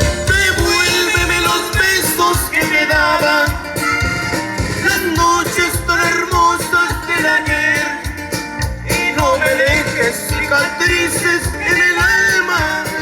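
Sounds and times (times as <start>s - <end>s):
live latin band music: 0.0s - 13.0s.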